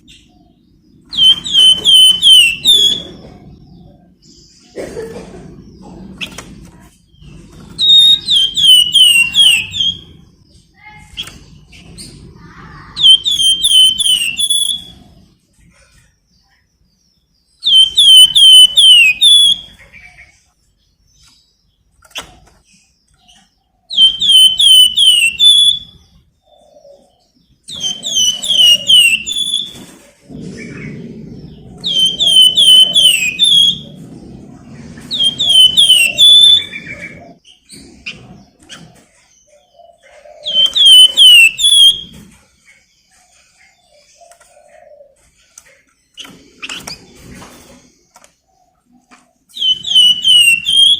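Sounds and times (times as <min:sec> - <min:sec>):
songbird whistled song: 0:00.0 - 0:04.6, 0:07.1 - 0:15.3, 0:15.9 - 0:22.3, 0:22.9 - 0:42.4, 0:48.2 - 0:50.9.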